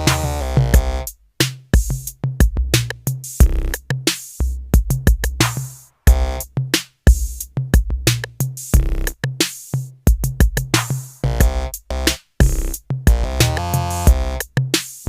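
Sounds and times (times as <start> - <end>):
background music with drum-machine beat: 0.0 - 15.0.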